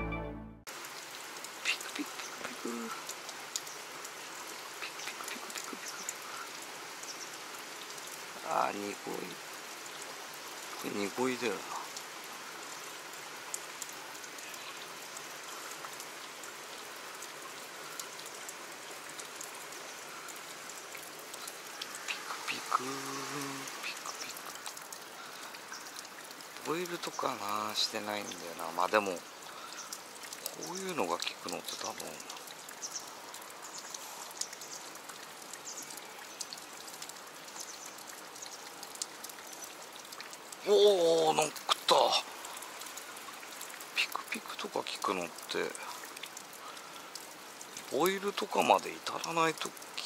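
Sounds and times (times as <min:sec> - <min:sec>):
creek water hissing and pattering: 0:00.7 - 0:50.0.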